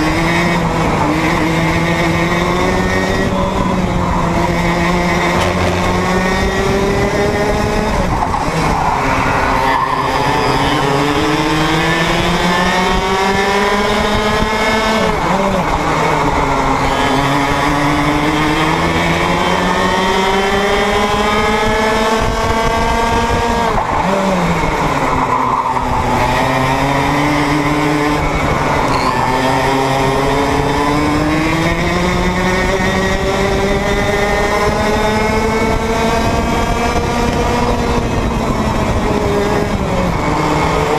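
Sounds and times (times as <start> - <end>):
two-stroke kart engine racing: 0.0 - 40.9.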